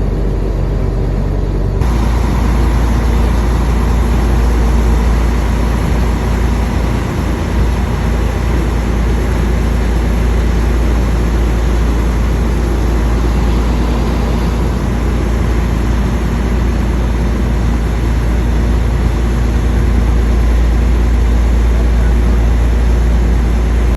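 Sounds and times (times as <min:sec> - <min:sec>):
engine running with low rumble: 0:00.0 - 0:23.9.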